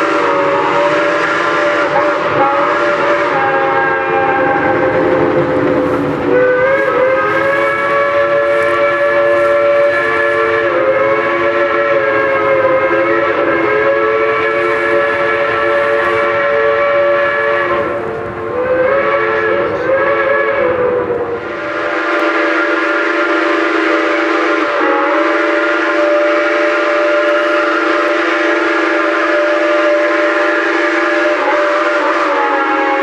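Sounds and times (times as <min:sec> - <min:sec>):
steam locomotive whistle: 0:00.0 - 0:33.0.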